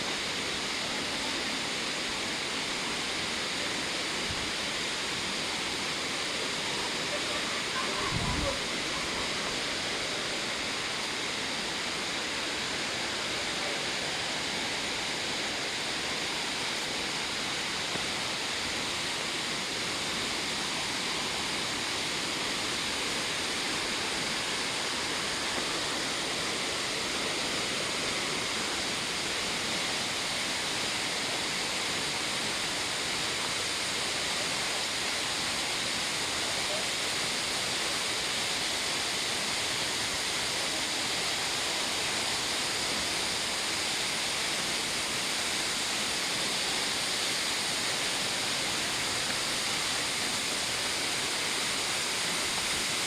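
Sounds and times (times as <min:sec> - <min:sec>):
rush of falling water: 0:00.0 - 0:53.0.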